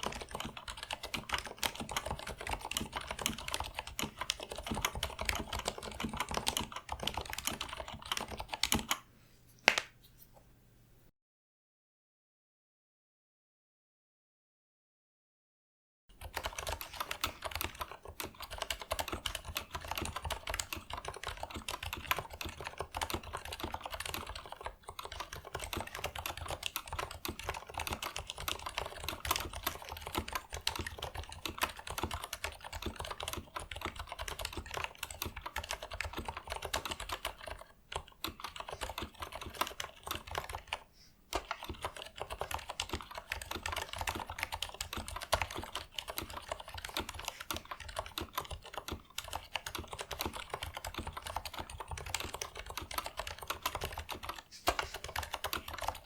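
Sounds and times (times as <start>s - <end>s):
fast typing on quiet keyboard: 0.0s - 9.1s, 16.1s - 56.0s.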